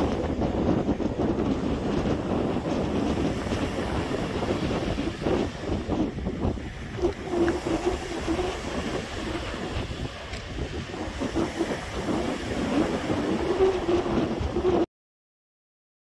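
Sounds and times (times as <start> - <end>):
small waves washing onto sand: 0.0 - 14.7
wind rumbling on microphone: 0.0 - 14.9.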